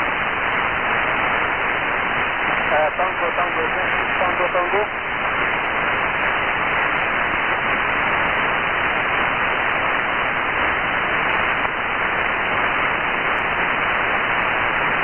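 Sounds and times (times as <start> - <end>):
radio receiver hiss: 0.0 - 15.0.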